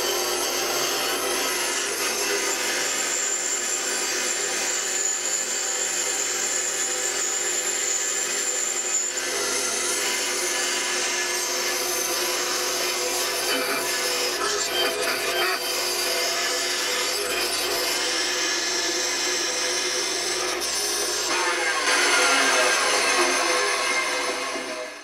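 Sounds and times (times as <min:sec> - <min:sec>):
bandsaw cutting wood: 0:00.0 - 0:25.0.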